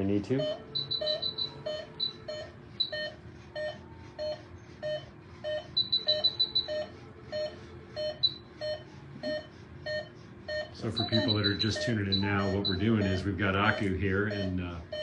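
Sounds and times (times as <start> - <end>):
monitor beeping: 0.0 - 15.0
rapid higher beeps: 0.3 - 15.0.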